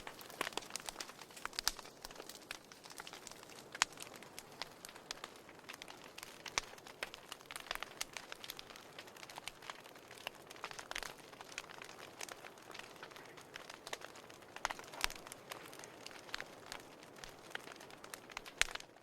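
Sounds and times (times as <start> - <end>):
low hiss of flames: 0.0 - 18.8
firewood crackling and popping: 0.0 - 19.0.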